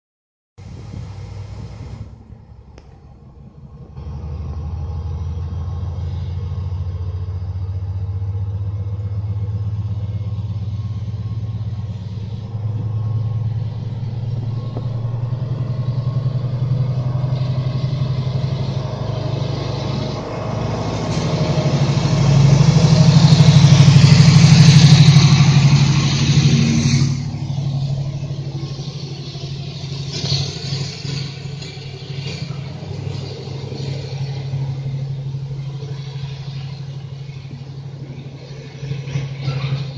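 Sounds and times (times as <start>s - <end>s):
diesel locomotive engine drone: 0.6s - 39.9s
rumble of passing train wagons: 0.6s - 39.9s.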